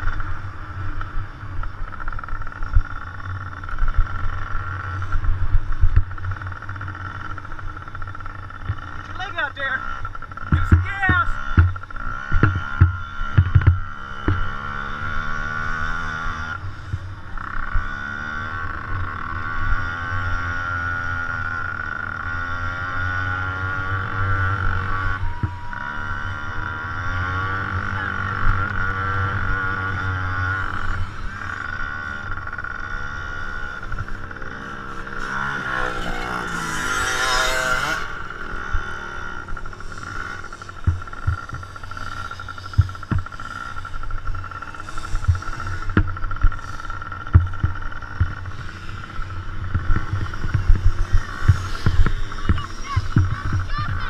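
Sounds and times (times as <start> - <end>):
dirt bike engines revving: 0.0 - 54.0
steady high whine: 0.0 - 54.0.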